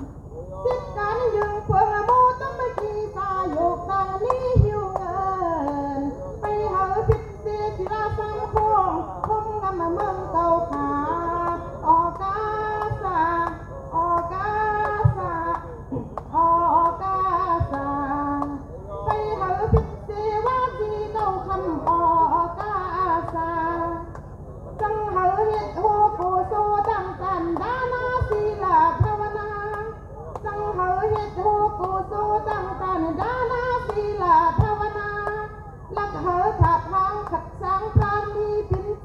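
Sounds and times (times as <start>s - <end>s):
woman singing into microphone: 0.0s - 24.2s, 24.8s - 39.0s
low microphone thumps: 0.0s - 39.0s.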